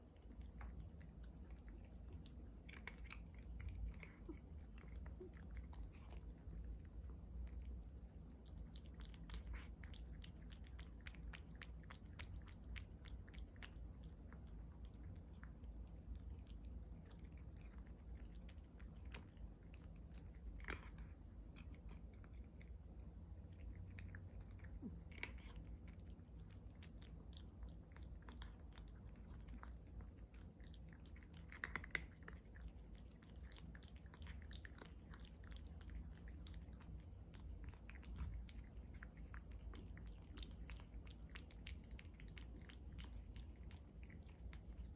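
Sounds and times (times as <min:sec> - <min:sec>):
cat crunching food: 0:00.0 - 0:44.9.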